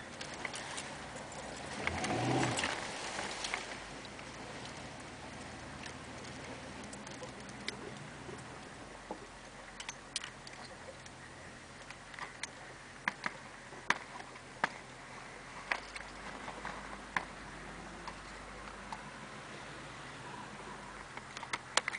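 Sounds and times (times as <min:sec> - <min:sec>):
diesel engine hum: 0:00.0 - 0:21.9.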